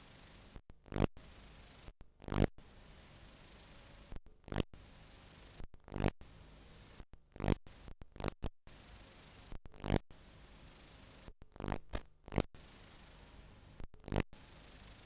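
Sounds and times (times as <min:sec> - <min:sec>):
video static hiss: 0:00.0 - 0:15.0.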